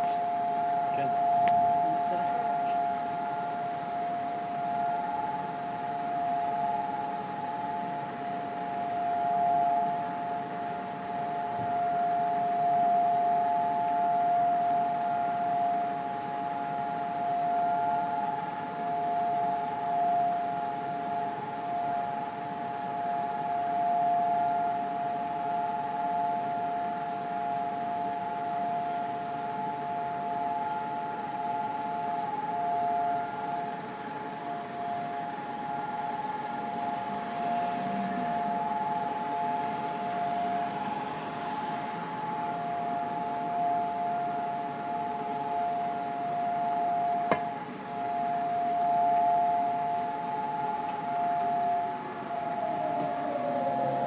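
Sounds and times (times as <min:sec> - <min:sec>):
steady siren: 0:00.0 - 0:54.0.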